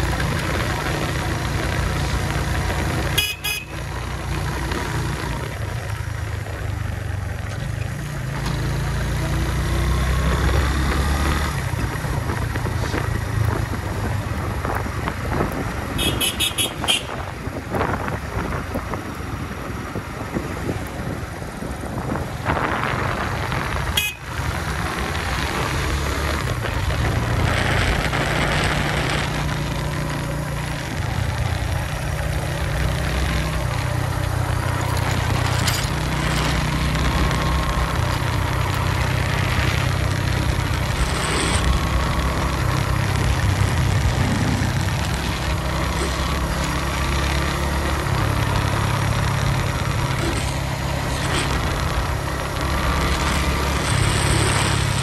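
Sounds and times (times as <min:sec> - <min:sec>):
motorcycle engine running: 0:00.0 - 0:55.0
wind and road noise hiss: 0:00.0 - 0:55.0.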